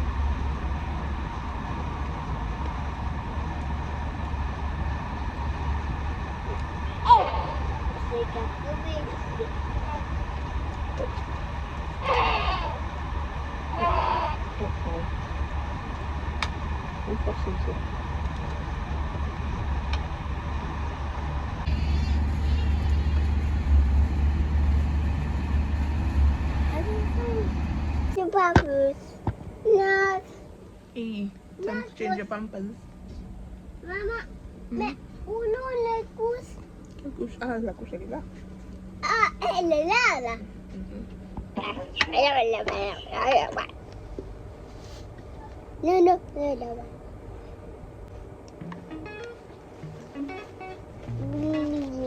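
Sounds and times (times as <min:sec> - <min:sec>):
moving train rumbling: 0:00.0 - 0:52.0.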